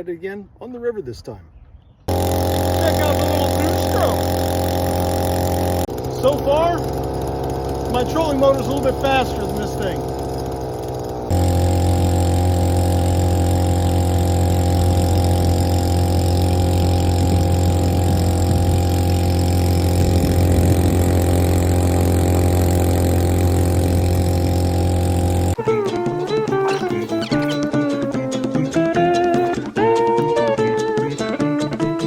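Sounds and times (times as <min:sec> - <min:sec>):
outboard motor running: 0:02.1 - 0:32.0.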